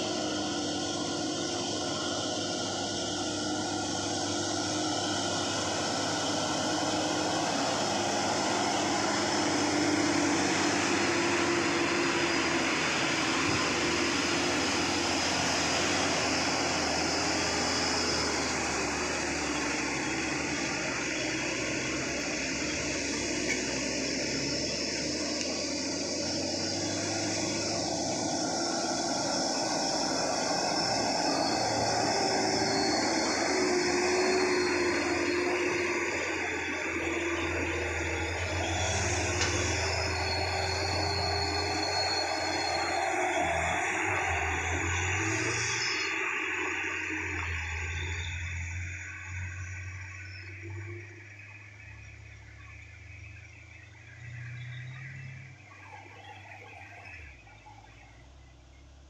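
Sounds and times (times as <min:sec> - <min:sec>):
diesel trucks labouring uphill: 0:00.0 - 0:59.0.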